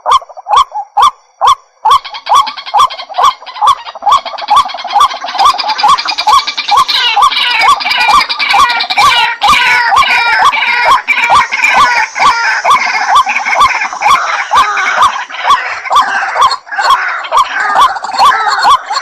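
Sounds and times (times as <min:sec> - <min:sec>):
harsh croaking chatter: 0:00.0 - 0:19.0.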